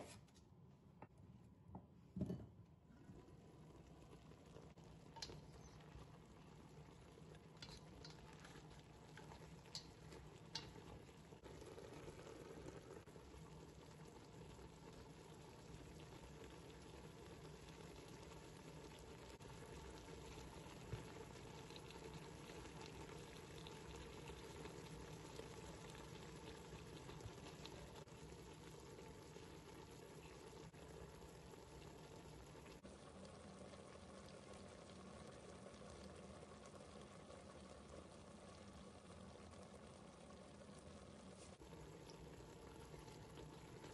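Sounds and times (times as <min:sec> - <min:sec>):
meat sizzling in a pot: 0:03.2 - 0:43.9.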